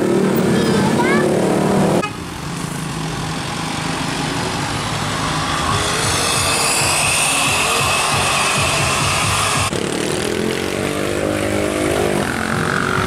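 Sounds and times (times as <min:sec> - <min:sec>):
motorcycle engine: 0:00.0 - 0:13.0
vehicle engines running: 0:00.0 - 0:13.0.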